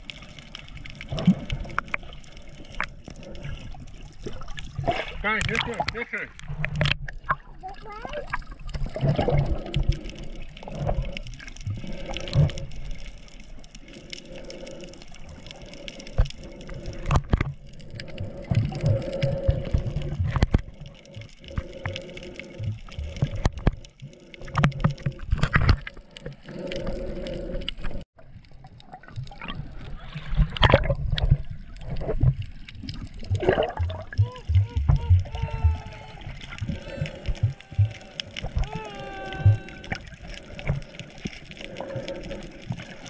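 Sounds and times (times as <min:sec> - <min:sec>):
muffled underwater water gurgling: 0:00.0 - 0:43.0.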